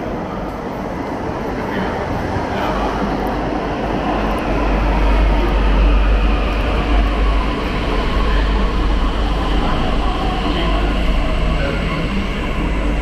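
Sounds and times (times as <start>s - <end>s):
train pulling into station: 0.0s - 13.0s.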